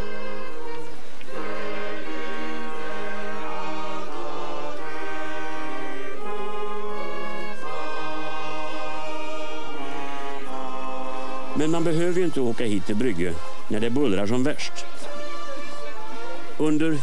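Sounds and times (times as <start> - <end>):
men's choir singing: 0.0 - 16.6.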